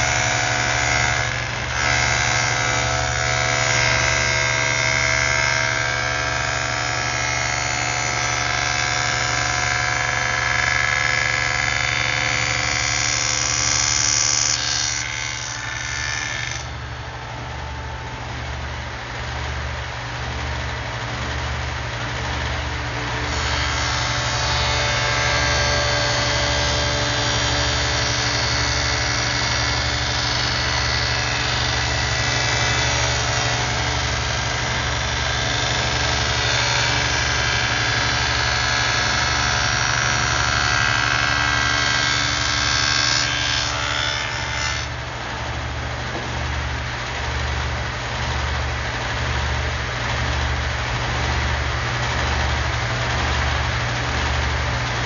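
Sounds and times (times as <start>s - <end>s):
table saw motor hum: 0.0s - 55.0s.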